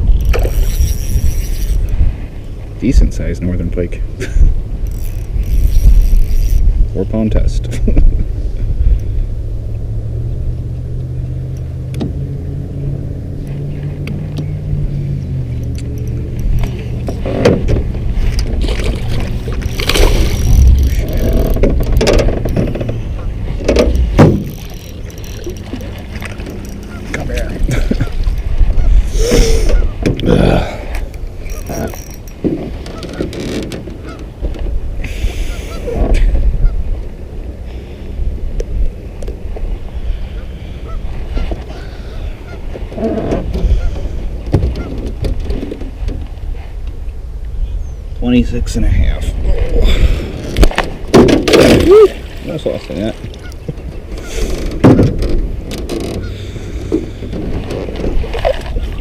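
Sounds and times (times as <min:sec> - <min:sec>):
boat motor running: 0:00.0 - 0:47.4, 0:49.2 - 0:59.0
wind buffeting microphone: 0:00.0 - 0:59.0.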